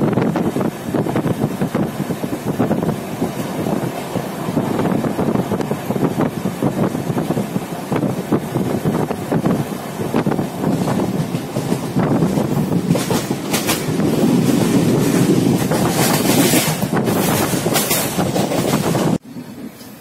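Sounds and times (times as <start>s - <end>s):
clickety-clack over rail joints: 0.0s - 20.0s
train wheel-and-rail rumble: 0.0s - 20.0s.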